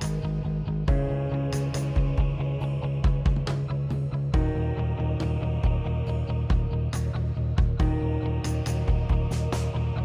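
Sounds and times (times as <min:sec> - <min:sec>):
instrumental music with a beat: 0:00.0 - 0:10.0.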